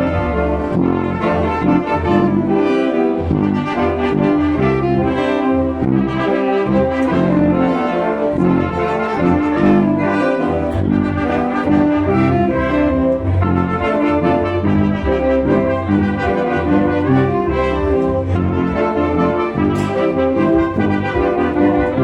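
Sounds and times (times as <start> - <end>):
rhythmic bass line: 0.0 - 22.0
wind band with brass: 0.0 - 22.0.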